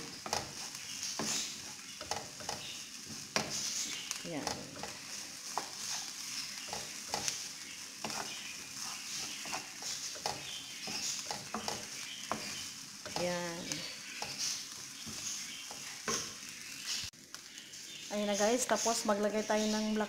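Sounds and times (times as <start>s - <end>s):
wooden spatula scraping pan: 0.0s - 17.1s
meat and onions sizzling: 0.0s - 20.0s.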